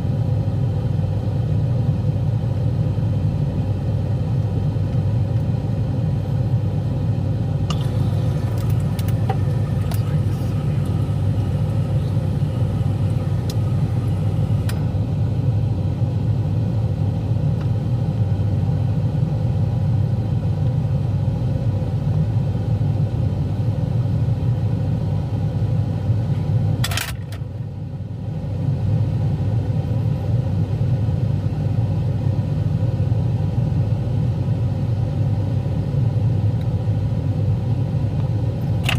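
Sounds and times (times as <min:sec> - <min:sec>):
refrigerator low hum: 0:00.0 - 0:38.9.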